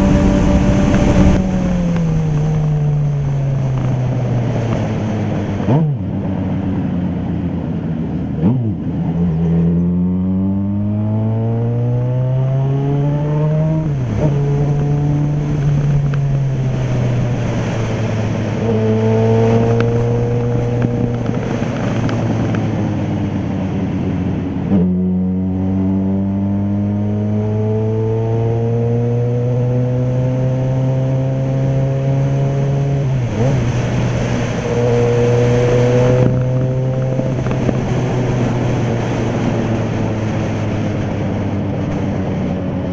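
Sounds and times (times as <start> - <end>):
motorcycle engine shifting gears: 0.0 - 42.9.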